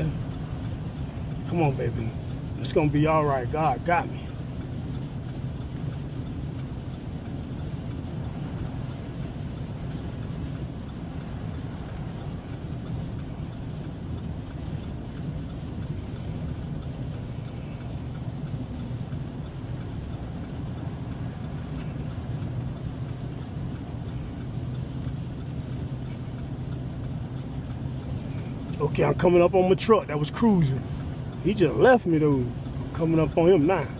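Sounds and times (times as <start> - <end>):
engine drone inside vehicle: 0.0 - 33.9
road noise: 0.0 - 33.9.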